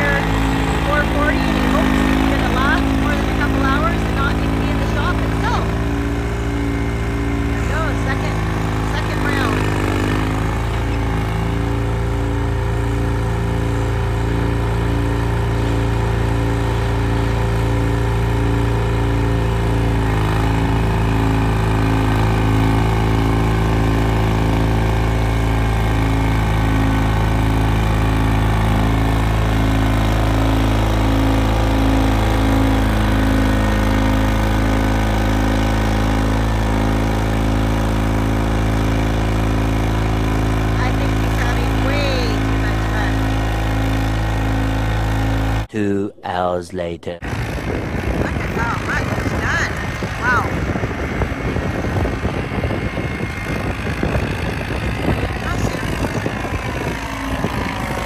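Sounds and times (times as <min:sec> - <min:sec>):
dozer engine throbbing under load: 0:00.0 - 0:58.0.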